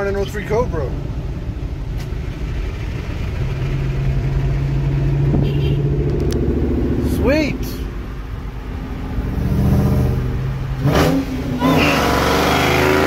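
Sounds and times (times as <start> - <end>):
car engine drone: 0.0 - 13.0
higher engine tone: 0.0 - 13.0
road noise inside car: 0.0 - 13.0.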